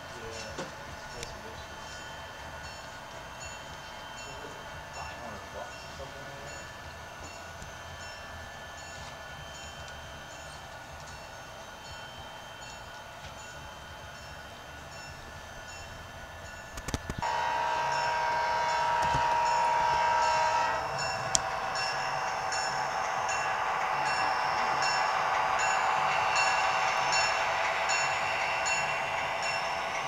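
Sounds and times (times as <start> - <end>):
model trains metallic tones: 0.0 - 30.0.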